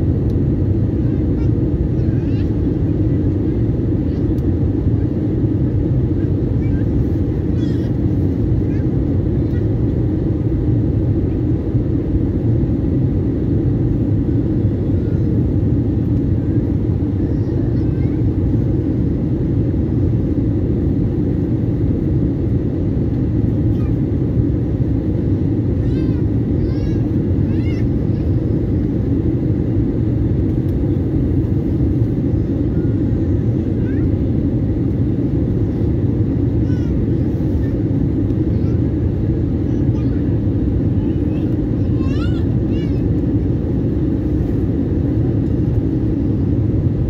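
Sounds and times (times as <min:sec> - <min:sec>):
jet engine and airflow rumble: 0:00.0 - 0:47.0.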